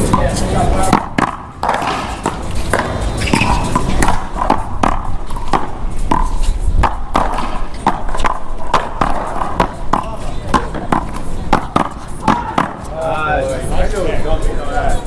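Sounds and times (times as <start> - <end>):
paddles hitting rubber ball: 0.0 - 13.0
ball bouncing off wall: 0.1 - 12.9.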